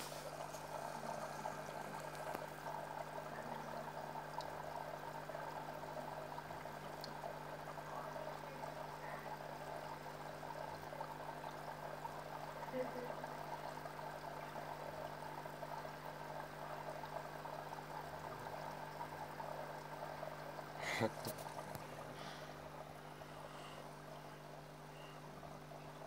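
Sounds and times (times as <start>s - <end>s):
aquarium water bubbling: 0.0s - 26.0s.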